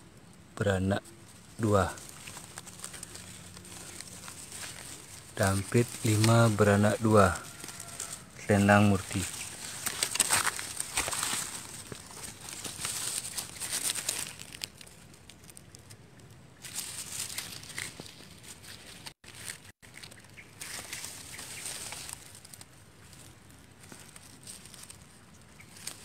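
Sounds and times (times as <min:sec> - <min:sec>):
dry bamboo leaves rustling: 0:00.6 - 0:26.0.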